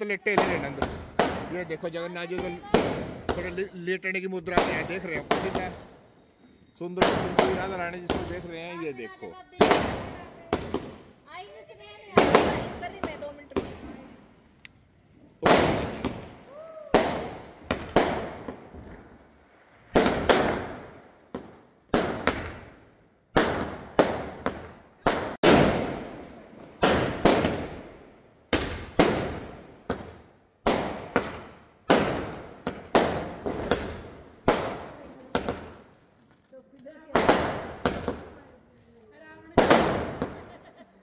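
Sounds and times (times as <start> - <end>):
fireworks bursting with loud bangs: 0.0 - 41.0.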